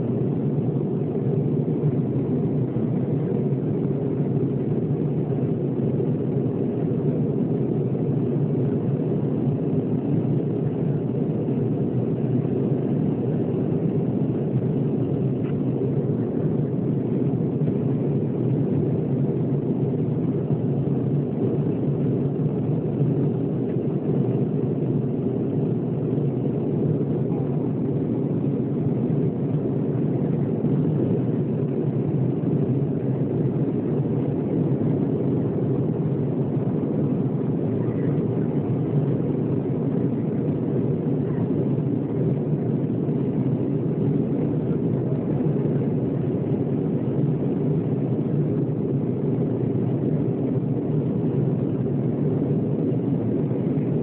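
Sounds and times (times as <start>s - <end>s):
jet engines and airflow in cabin: 0.0s - 54.0s.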